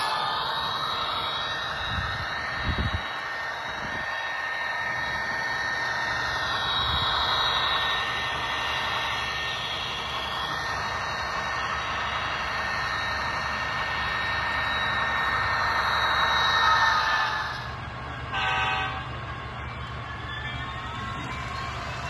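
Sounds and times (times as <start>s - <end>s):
diesel locomotive engine through speaker: 0.0s - 22.0s.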